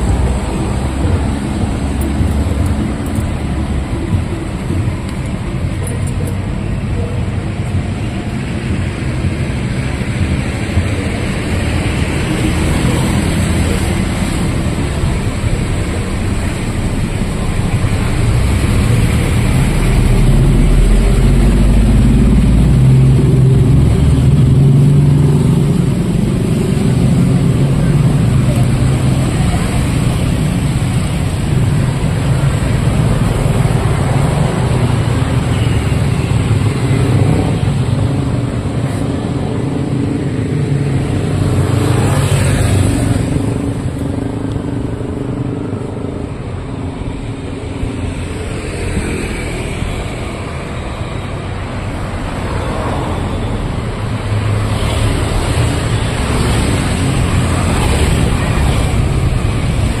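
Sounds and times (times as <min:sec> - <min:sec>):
cars and motorcycles passing: 0:00.0 - 1:00.0.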